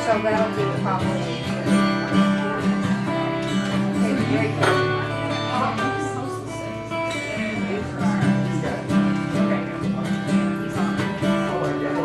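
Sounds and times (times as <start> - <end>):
guitar playing: 0.0 - 12.0.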